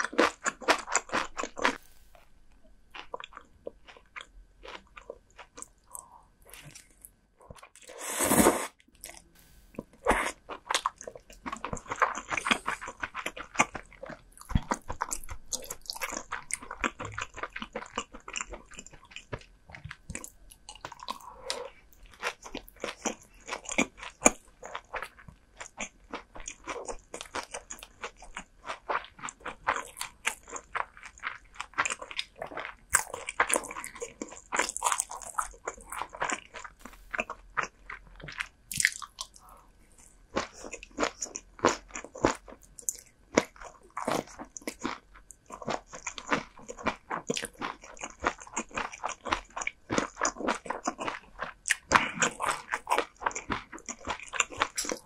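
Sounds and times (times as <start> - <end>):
crunchy bites and chewing: 8.5 - 39.6, 40.3 - 55.0.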